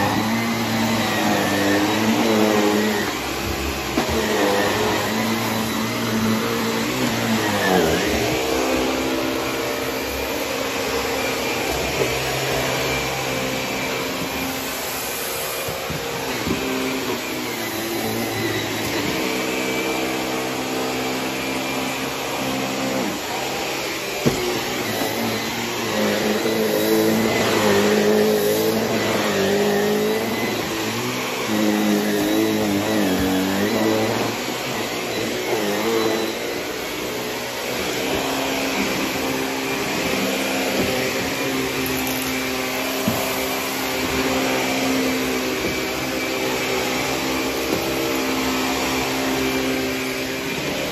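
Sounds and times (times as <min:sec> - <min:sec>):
upright vacuum cleaner running: 0:00.0 - 0:50.9.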